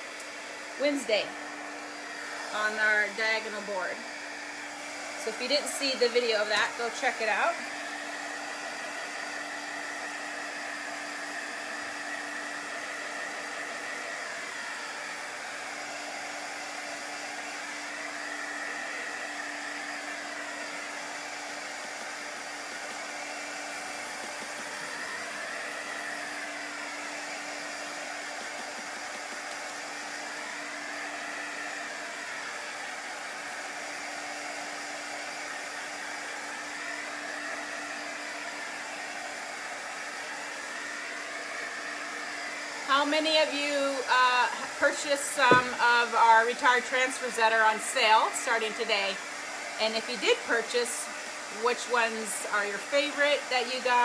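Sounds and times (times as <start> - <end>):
heat gun blowing air: 0.0 - 54.0.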